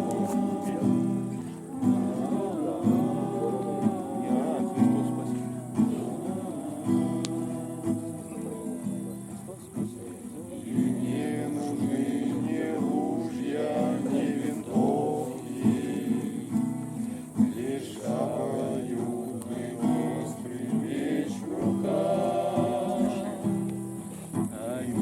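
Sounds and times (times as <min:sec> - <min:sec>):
guitar accompaniment: 0:00.0 - 0:25.0
people singing together: 0:00.0 - 0:25.0.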